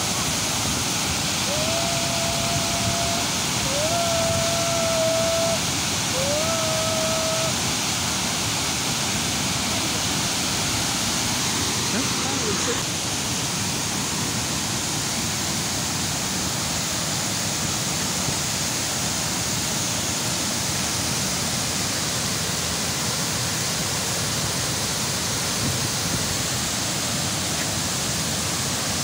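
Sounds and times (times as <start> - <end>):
waterfall crashing on rocks: 0.0 - 29.0.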